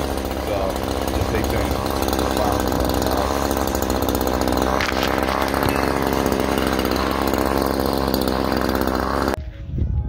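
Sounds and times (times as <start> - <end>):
chainsaw cutting through bush: 0.0 - 9.4.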